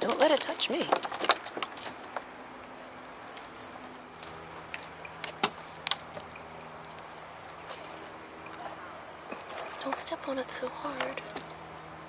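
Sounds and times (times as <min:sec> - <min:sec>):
high-pitched insect trill: 0:00.4 - 0:12.0.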